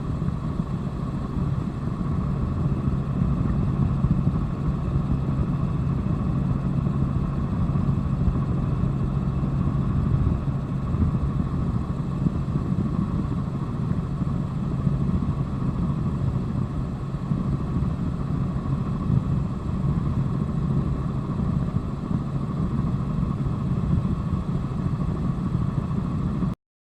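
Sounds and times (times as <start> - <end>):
helicopter engine and rotor drone: 0.0 - 26.6.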